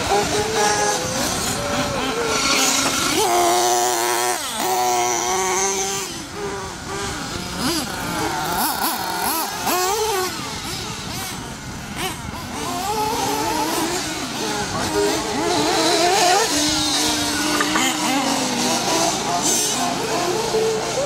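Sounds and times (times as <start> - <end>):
rc buggy engines whining: 0.0 - 21.0.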